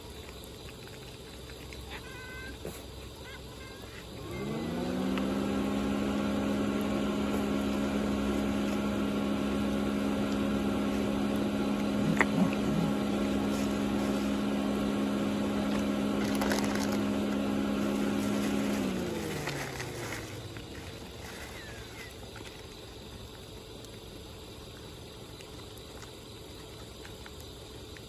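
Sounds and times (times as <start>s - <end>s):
machine motor hum: 0.0s - 28.0s.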